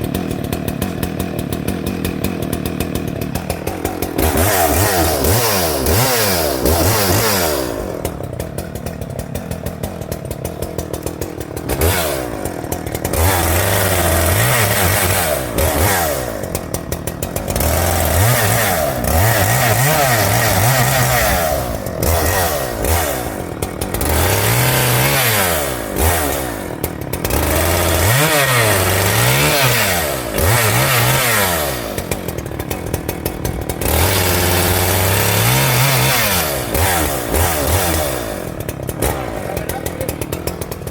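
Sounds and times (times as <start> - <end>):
chainsaw revving and cutting wood: 0.0 - 40.9.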